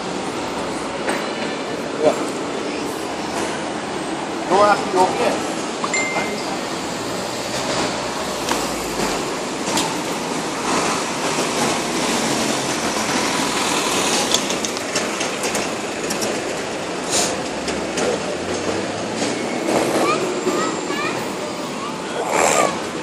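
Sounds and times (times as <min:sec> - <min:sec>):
city street noise: 0:00.0 - 0:23.0.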